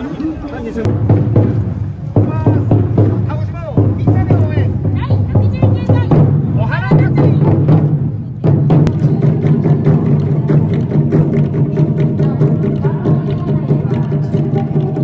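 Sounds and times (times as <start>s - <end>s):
fast taiko drumming: 0.9s - 15.0s
festival music: 0.9s - 15.0s.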